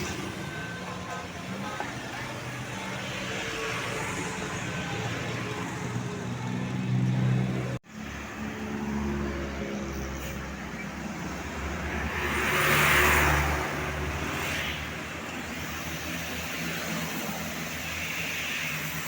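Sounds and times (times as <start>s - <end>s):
bus engine: 0.0s - 19.0s
road traffic: 0.0s - 19.0s.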